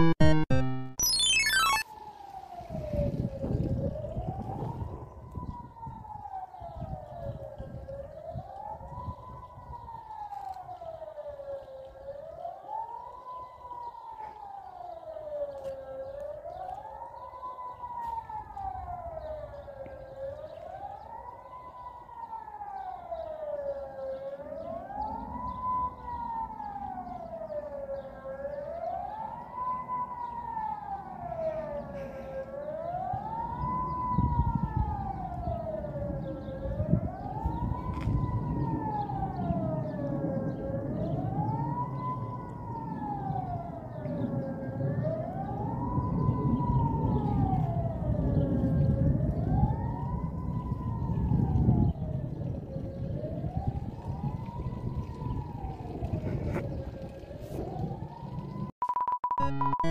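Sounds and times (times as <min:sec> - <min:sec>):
warning siren wailing: 0:00.0 - 0:58.7, 0:59.4 - 0:59.9.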